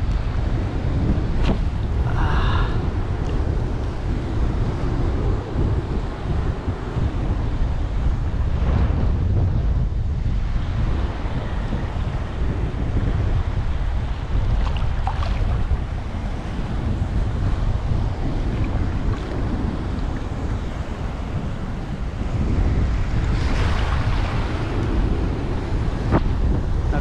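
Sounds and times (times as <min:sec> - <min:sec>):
choppy sea waves washing: 0:00.0 - 0:27.0
wind buffeting microphone: 0:00.0 - 0:27.0.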